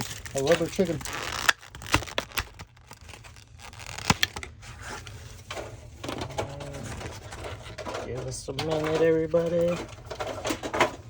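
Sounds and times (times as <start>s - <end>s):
plastic wrapping crinkling and tearing: 0.0s - 10.5s.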